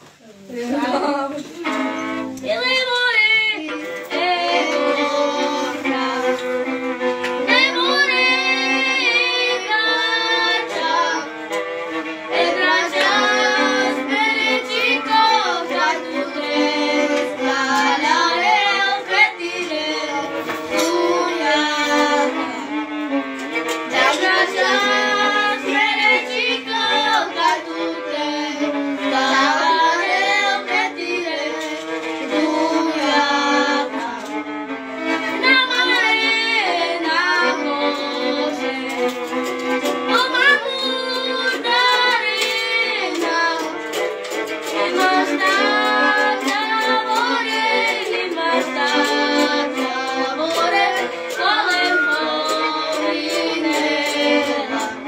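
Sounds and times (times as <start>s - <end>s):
violin bowed notes: 0.0s - 55.0s
boy singing: 0.2s - 22.9s, 23.6s - 34.4s, 35.3s - 55.0s.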